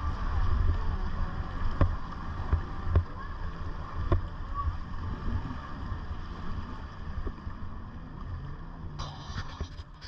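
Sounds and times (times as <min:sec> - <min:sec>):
jet ski engines running: 0:00.0 - 0:10.0.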